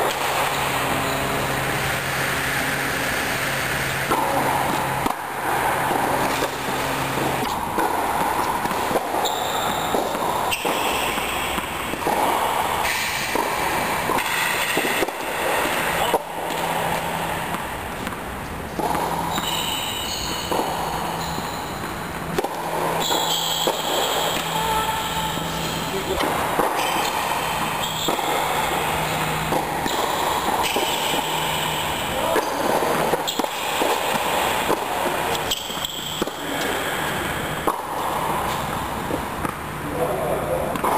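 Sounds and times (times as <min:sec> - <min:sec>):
steady background noise: 0:00.0 - 0:40.9
tennis balls bouncing on court: 0:00.0 - 0:40.9
tennis balls struck by rackets: 0:00.0 - 0:40.9.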